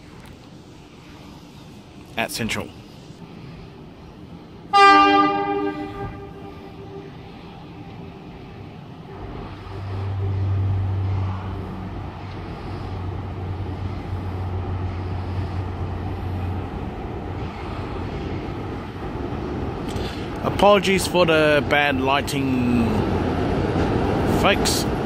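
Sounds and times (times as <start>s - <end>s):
diesel locomotive engine drone: 0.0s - 25.0s
rumble of moving train: 0.0s - 25.0s.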